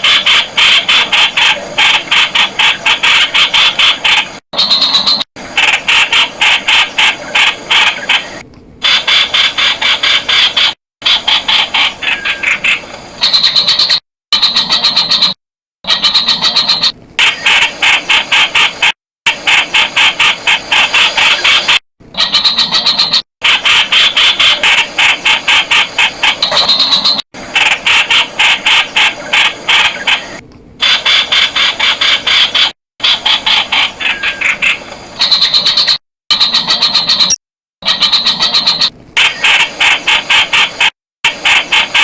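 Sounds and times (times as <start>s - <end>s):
bird chattering sharp notes: 0.0s - 42.0s.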